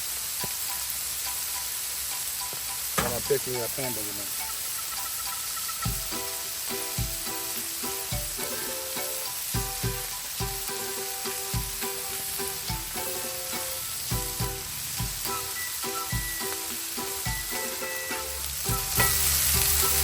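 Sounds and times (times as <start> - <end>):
meat patties sizzling on griddle: 0.0 - 20.0
background music with plucked notes: 0.3 - 20.0.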